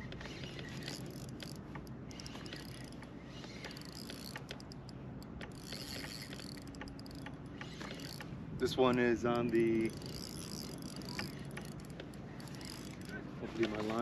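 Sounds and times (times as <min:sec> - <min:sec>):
fishing reel clicking: 0:00.0 - 0:14.0.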